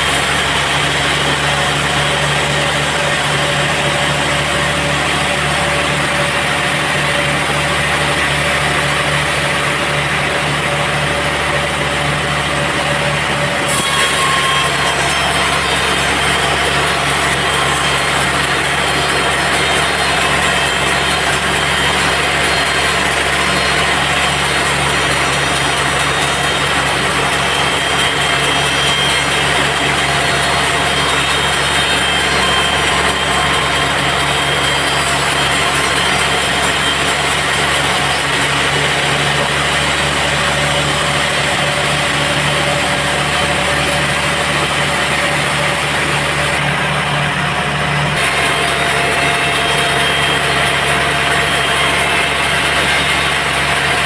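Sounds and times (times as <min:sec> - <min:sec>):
steady machine tones: 0:00.0 - 0:54.0.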